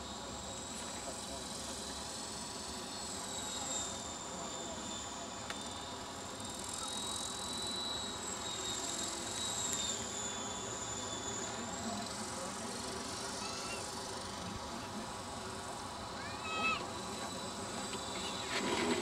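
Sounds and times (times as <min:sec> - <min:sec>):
rc helicopter rotor whine: 0:00.0 - 0:19.0.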